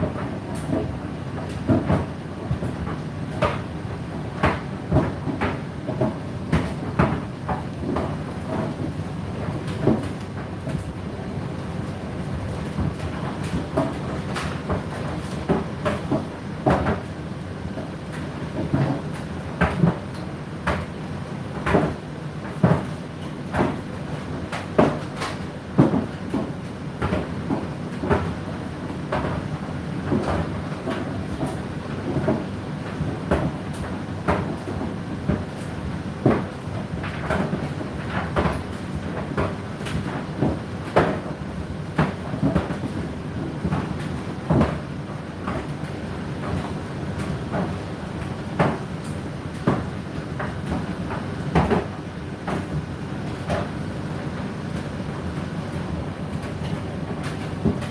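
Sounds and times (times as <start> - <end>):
laundry tumbling in machine drum: 0.0 - 57.9.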